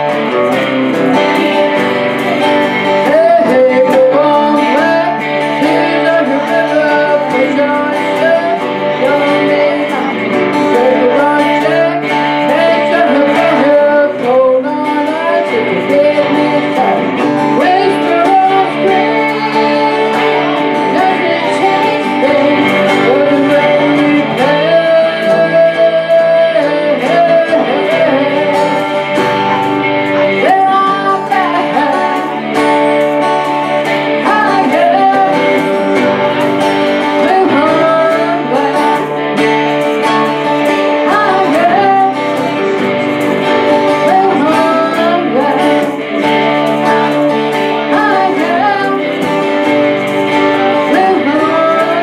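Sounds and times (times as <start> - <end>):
electric lead guitar bending notes: 0.0 - 52.0
strummed acoustic guitar: 0.0 - 52.0
woman singing: 0.0 - 52.0.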